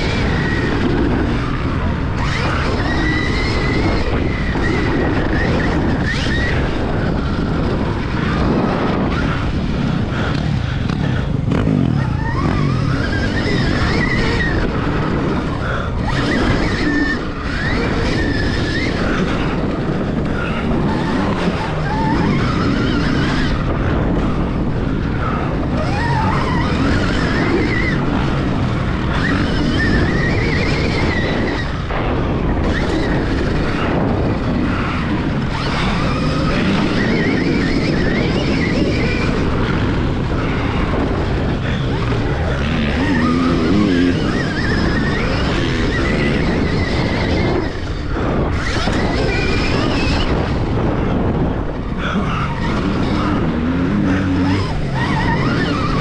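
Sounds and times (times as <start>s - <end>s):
motocross bike engine: 0.0s - 56.0s
wind and track noise: 0.0s - 56.0s.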